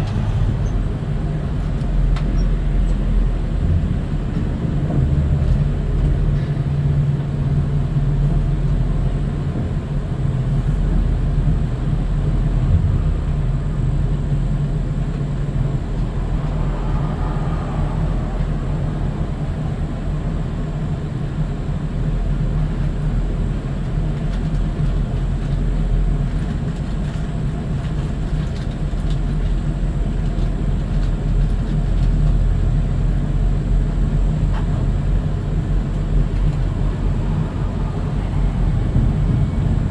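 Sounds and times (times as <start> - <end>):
tow truck engine rumbling: 0.0 - 39.9.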